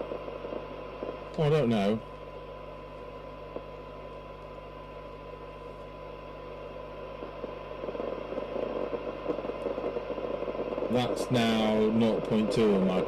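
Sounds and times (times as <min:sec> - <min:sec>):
low hum: 0:00.0 - 0:13.0
radio hiss: 0:00.0 - 0:13.0
steady test tone: 0:00.0 - 0:13.0.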